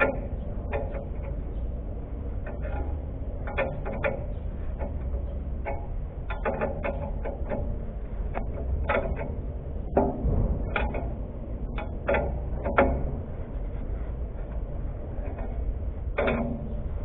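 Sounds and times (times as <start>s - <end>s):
spanner clicking on nut: 0.0s - 1.7s, 2.4s - 13.6s, 15.2s - 17.0s
steady low hum: 0.0s - 17.0s.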